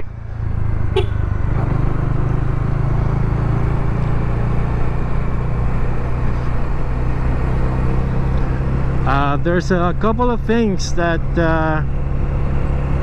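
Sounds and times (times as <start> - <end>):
motorcycle engine hum: 0.0 - 13.0
road rumble: 0.0 - 13.0.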